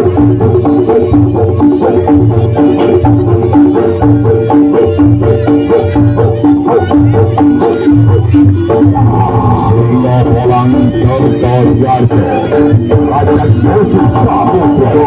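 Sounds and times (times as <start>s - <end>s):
reedy melody: 0.0s - 15.0s
steady drum beat: 0.0s - 15.0s.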